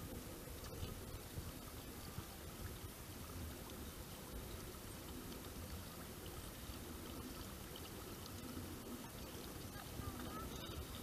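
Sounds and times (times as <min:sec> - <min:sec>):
water lapping around kayak hull: 0:00.0 - 0:11.0.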